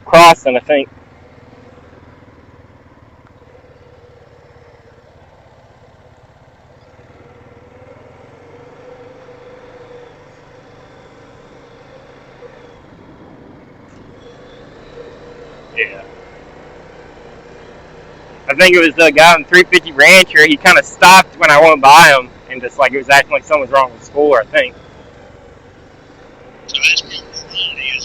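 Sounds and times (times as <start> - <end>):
atv engine idling: 0.0 - 28.0.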